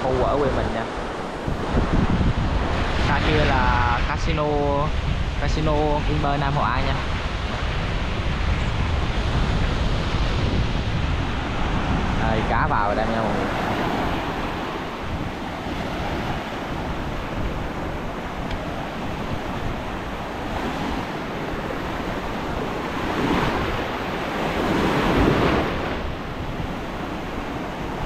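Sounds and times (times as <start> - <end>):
surf washing onto beach: 0.0 - 28.0
wind on microphone: 0.0 - 28.0.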